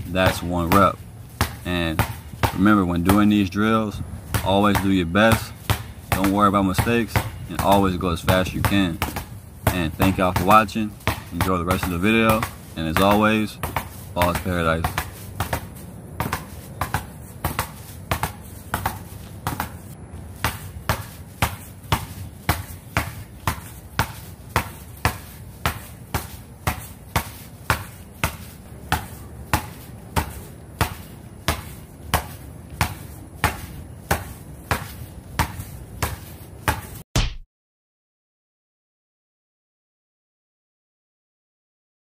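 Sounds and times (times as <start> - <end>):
basketball bouncing on concrete: 0.0 - 37.4.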